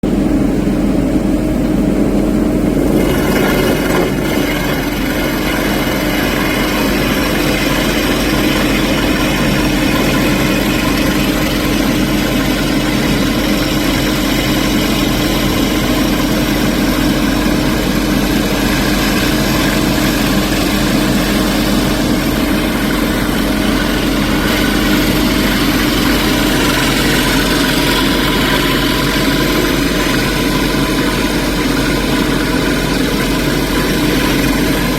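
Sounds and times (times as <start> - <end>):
heavy machinery engine running: 0.0 - 34.9.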